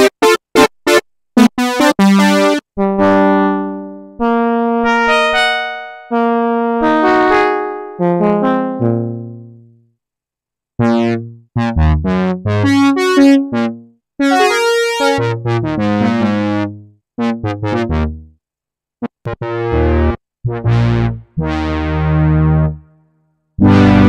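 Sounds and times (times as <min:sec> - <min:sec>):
synthesizer chords: 0:00.0 - 0:09.6, 0:10.8 - 0:18.3, 0:19.0 - 0:22.8, 0:23.6 - 0:24.0.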